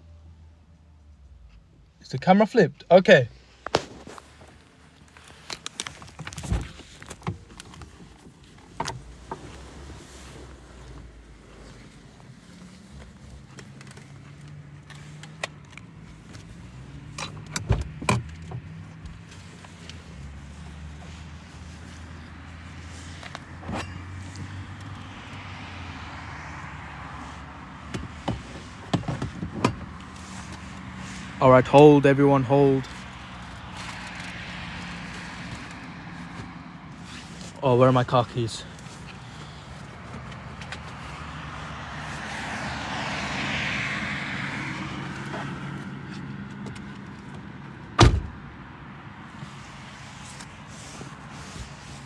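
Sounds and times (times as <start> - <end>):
vehicle passing: 3.1 - 52.0.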